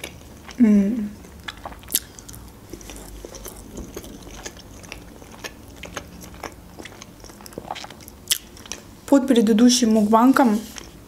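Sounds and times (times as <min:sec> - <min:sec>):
person chewing: 0:00.0 - 0:09.0, 0:10.7 - 0:11.0.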